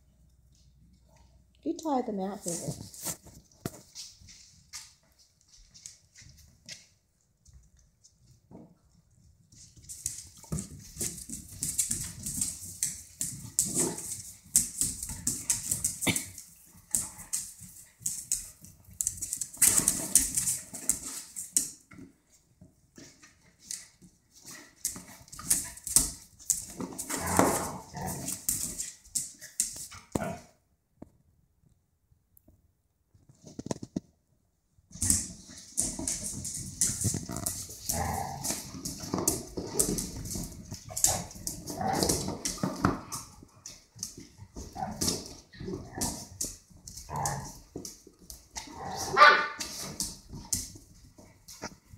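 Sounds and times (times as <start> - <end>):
dog claws scrabbling on tile: 2.5 - 31.2, 34.9 - 51.9
dogs playing noises: 2.6 - 30.6, 34.9 - 51.9.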